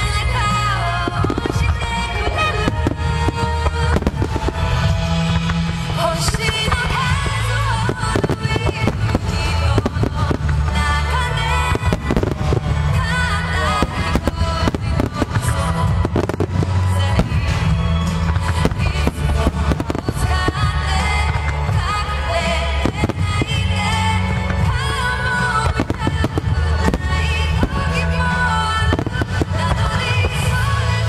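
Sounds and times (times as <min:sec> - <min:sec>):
fireworks bangs and crackle: 0:00.0 - 0:31.0
loud music: 0:00.0 - 0:31.0.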